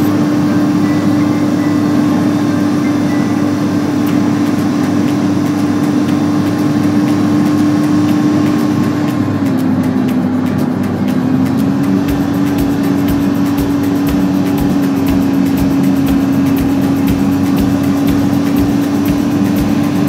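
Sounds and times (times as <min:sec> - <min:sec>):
low hum: 0:00.0 - 0:20.0
road and engine noise in vehicle: 0:00.0 - 0:20.0.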